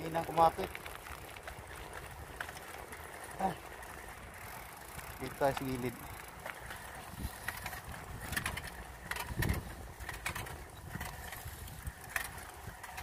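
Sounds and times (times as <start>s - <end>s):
bicycle rolling over paving: 0.0s - 13.0s
bike clicks and rattles: 0.0s - 13.0s.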